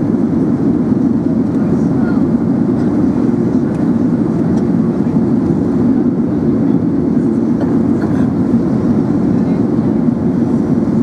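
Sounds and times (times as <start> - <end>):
airplane cabin engine hum: 0.0 - 11.0.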